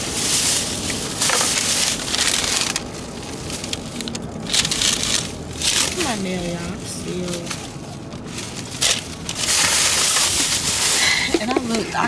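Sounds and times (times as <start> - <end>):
rustling handling noise: 0.0 - 12.0.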